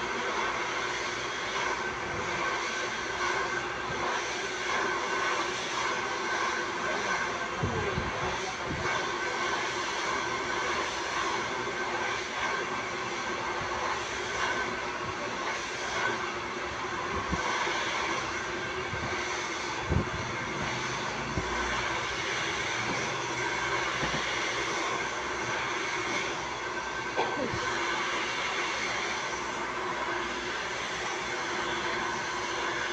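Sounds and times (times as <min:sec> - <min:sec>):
hair dryer running: 0:00.0 - 0:32.9.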